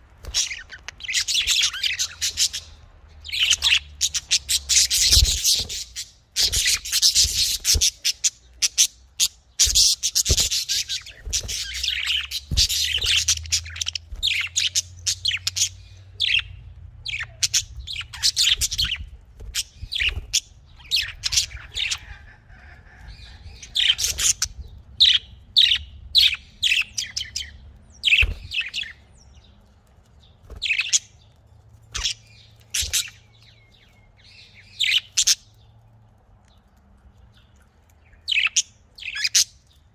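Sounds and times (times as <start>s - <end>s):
budgerigars chirping and chattering: 0.1s - 35.9s, 36.5s - 39.9s.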